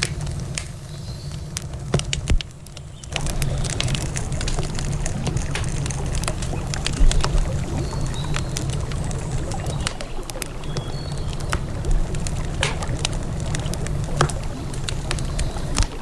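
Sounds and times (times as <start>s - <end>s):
campfire crackling and popping: 0.0s - 16.0s
river water rushing: 3.2s - 16.0s.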